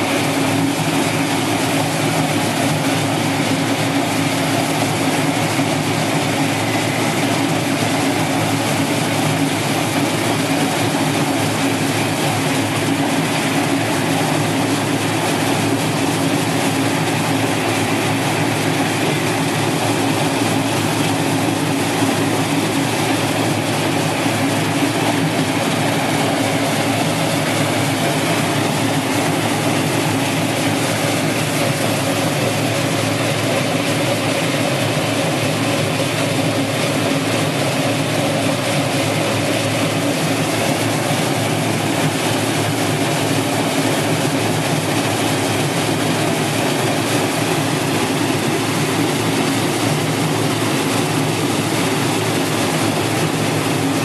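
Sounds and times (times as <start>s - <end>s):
machine mechanical drone: 0.0s - 54.0s.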